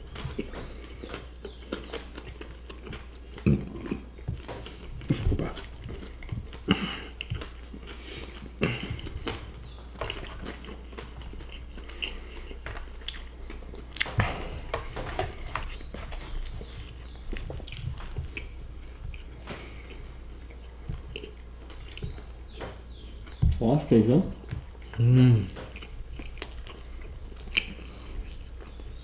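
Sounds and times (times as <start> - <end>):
crunching bites: 0.0 - 29.0
people chewing and biting: 0.0 - 29.0.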